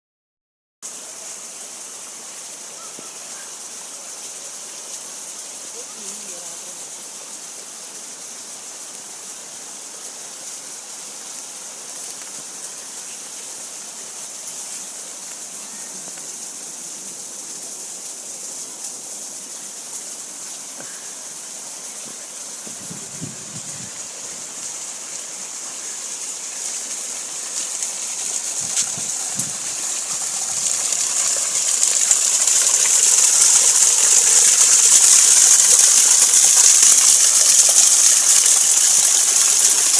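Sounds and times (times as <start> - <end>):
hiss of rushing water: 0.8 - 39.9.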